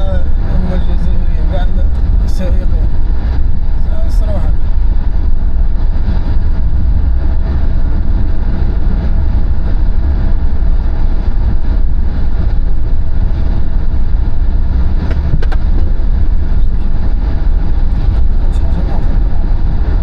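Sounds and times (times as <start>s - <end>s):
car engine: 0.0s - 20.0s
road and wind noise: 0.0s - 20.0s.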